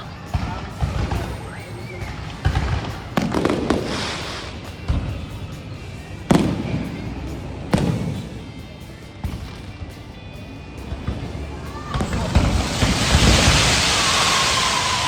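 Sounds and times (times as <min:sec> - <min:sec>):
fireworks bursting with bangs: 0:00.0 - 0:15.0
fireworks crackle: 0:00.0 - 0:15.0.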